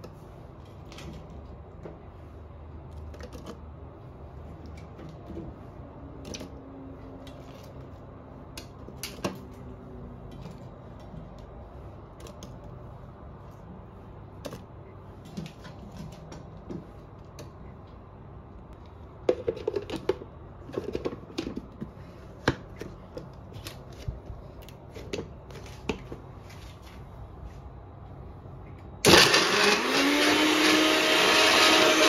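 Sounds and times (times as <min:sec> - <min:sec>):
low steady hum: 0:00.0 - 0:29.7.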